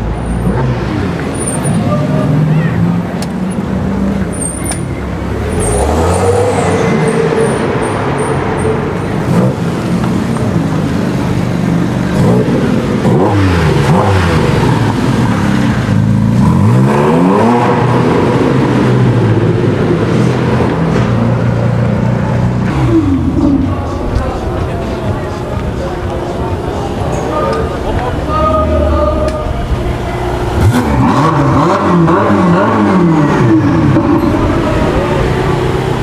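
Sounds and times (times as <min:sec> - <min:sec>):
supercar engines revving: 0:00.0 - 0:36.0
low engine drone: 0:03.8 - 0:36.0.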